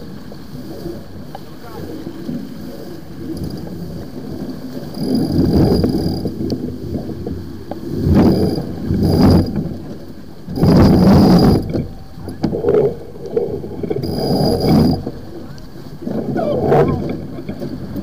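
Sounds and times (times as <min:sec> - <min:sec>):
water rushing past hull: 0:00.0 - 0:18.0
wind buffeting microphone: 0:00.0 - 0:18.0.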